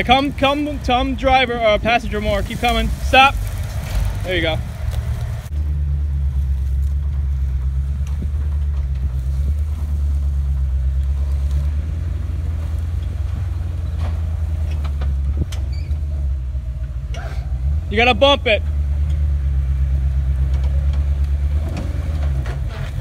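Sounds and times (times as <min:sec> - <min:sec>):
truck engine low rumble: 0:00.0 - 0:23.0.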